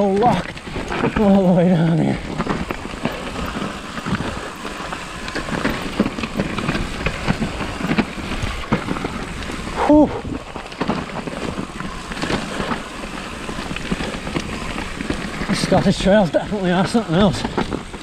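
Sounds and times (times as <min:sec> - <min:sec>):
bike rattling and knocking: 0:00.0 - 0:18.0
bike tyres skidding on mud: 0:00.0 - 0:18.0.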